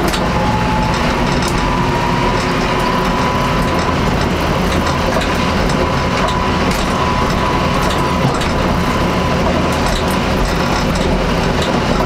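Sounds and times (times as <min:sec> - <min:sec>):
steady high whine: 0:00.0 - 0:12.0
tractor diesel engine running: 0:00.0 - 0:12.0.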